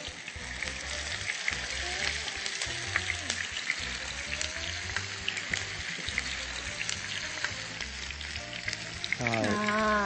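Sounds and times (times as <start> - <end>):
soft background music: 0.0 - 10.0
tofu sizzling in oil: 0.0 - 10.0.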